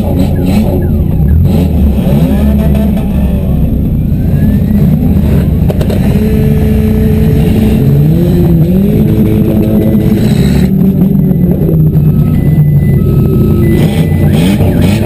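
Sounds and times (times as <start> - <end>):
car engines revving loudly: 0.0 - 15.0.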